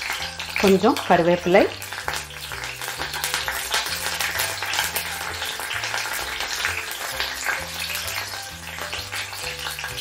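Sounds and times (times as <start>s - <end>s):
background music with bass line: 0.0s - 10.0s
garlic sizzling in hot oil: 0.0s - 10.0s.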